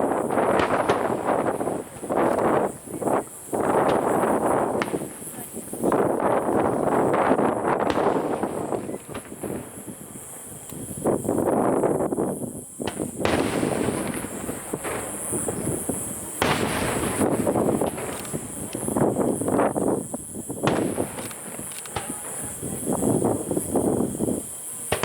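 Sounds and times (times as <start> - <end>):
fireworks crackling bursts: 0.0 - 25.0.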